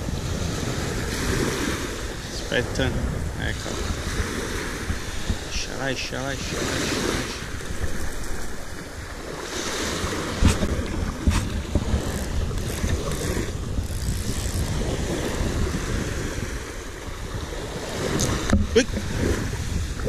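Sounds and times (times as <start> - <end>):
waves washing up pebble beach: 0.0 - 20.0
wind buffeting microphone: 0.0 - 20.0.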